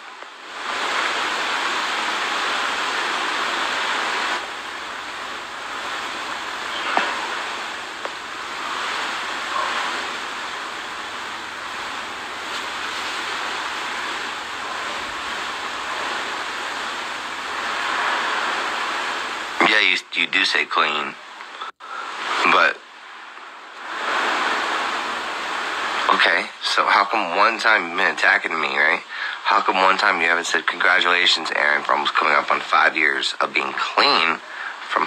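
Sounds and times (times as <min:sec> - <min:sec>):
steady rushing hiss: 0:00.0 - 0:35.0.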